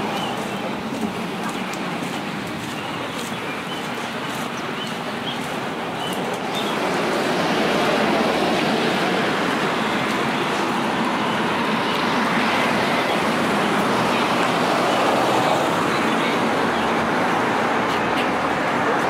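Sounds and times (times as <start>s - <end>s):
street traffic rushing: 0.0s - 19.0s.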